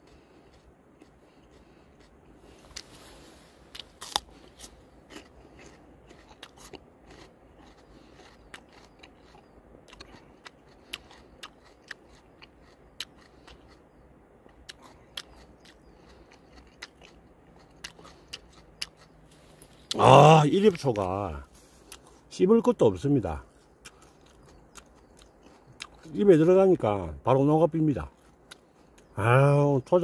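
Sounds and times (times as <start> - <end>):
crisp chewing crunches: 0.0 - 22.3, 23.2 - 26.6, 28.0 - 29.2.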